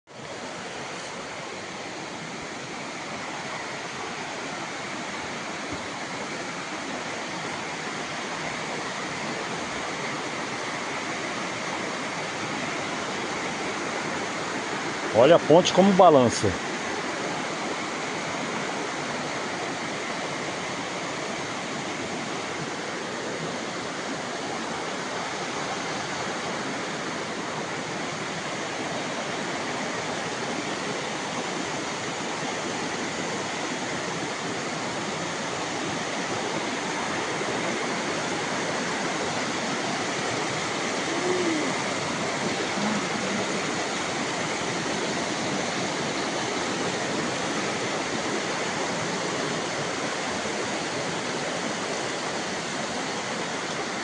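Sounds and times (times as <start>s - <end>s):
fast-flowing water rushing: 0.1s - 54.0s.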